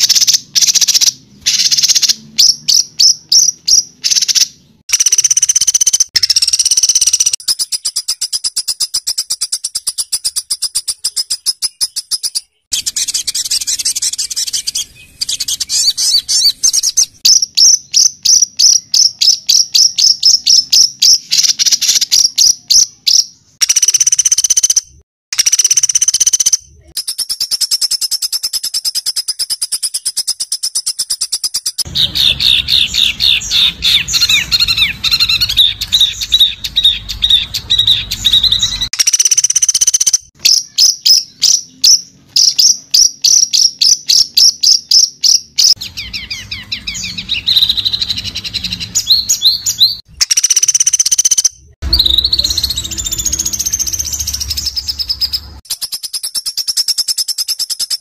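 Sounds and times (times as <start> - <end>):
songbird harsh rapid song: 0.0 - 24.6, 25.6 - 58.0.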